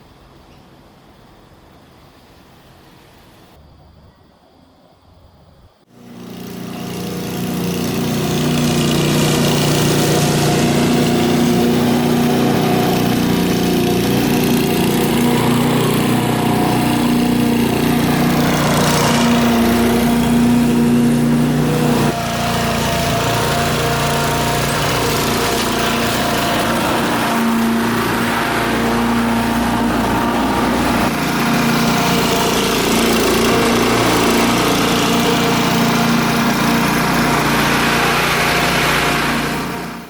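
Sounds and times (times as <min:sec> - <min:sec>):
motor running steadily: 0:05.9 - 0:40.0.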